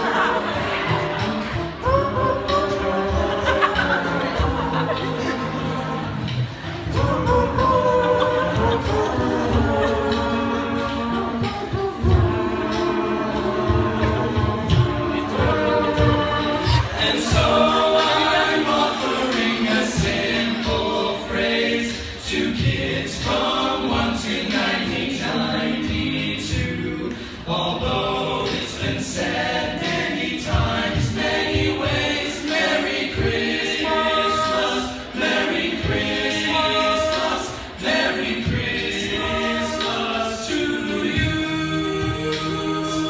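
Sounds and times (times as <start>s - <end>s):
choir singing in harmony: 0.0s - 43.0s.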